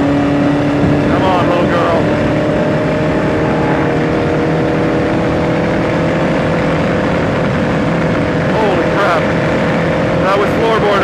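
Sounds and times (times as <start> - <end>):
racing car engine at high revs: 0.0 - 11.0
wind and road noise: 0.0 - 11.0.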